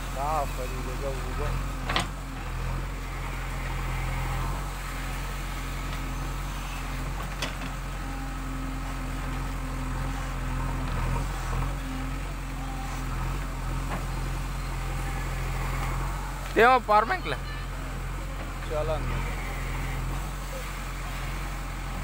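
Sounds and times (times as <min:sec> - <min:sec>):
backhoe diesel engine running: 0:00.0 - 0:22.0.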